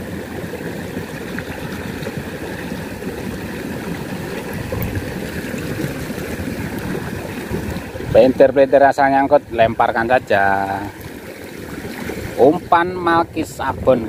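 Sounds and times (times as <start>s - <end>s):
stream trickling: 0.0s - 14.0s.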